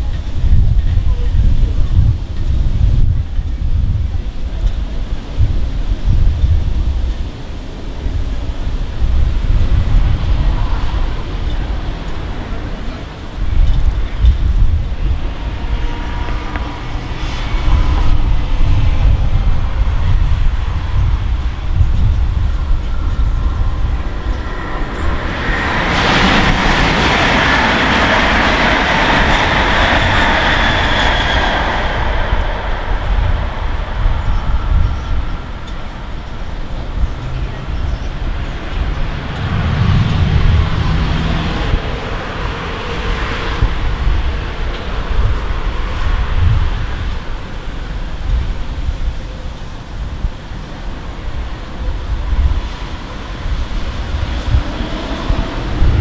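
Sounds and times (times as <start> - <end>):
passing train rolling noise: 0.0 - 56.0
low rumble: 8.2 - 50.6, 51.4 - 56.0.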